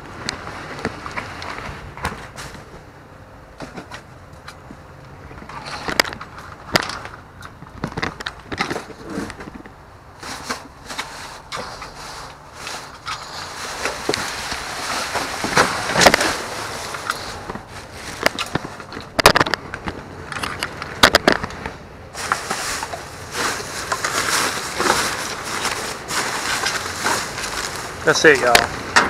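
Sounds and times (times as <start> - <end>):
trash bags and boxes rustling: 5.4 - 29.0.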